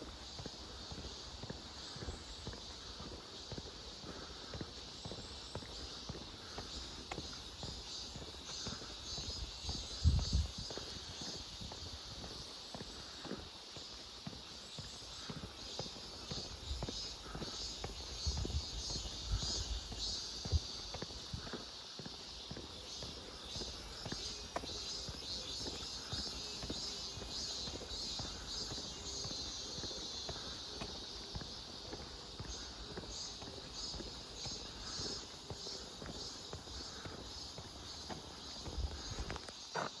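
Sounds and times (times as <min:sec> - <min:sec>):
footsteps on a road: 0:00.0 - 0:40.0
insects chirring: 0:00.0 - 0:40.0.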